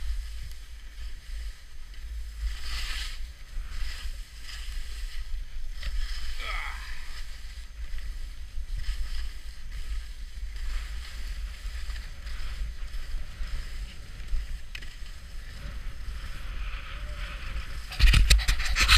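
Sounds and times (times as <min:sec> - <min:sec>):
skis scraping over snow: 0:00.0 - 0:18.9
wind buffeting microphone: 0:03.1 - 0:18.9.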